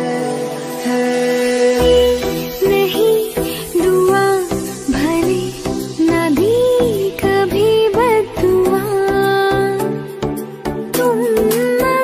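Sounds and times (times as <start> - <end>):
slow romantic song: 0.0 - 12.0.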